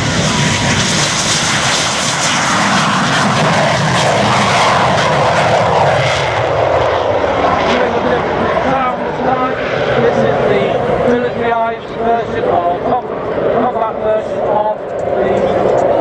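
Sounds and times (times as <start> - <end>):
aircraft engine flying past: 0.0 - 16.0.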